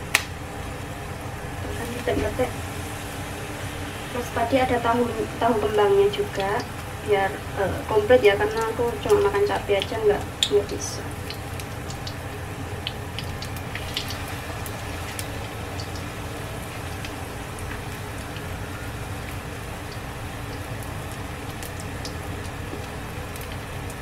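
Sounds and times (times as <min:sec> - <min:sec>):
oil popping and crackling: 0:00.0 - 0:00.8, 0:01.4 - 0:24.0
food deep-frying in oil: 0:00.0 - 0:24.0.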